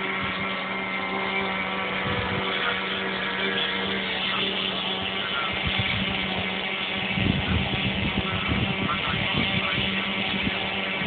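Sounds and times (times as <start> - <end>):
model plane propeller drone: 0.0 - 11.0
wind buffeting microphone: 0.0 - 11.0.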